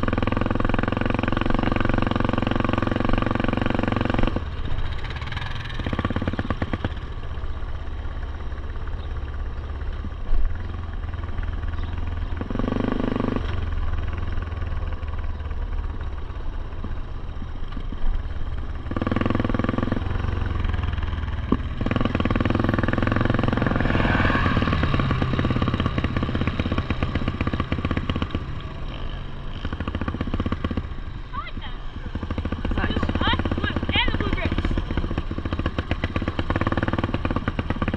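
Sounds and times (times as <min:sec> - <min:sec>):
atv engine running: 0:00.0 - 0:37.9.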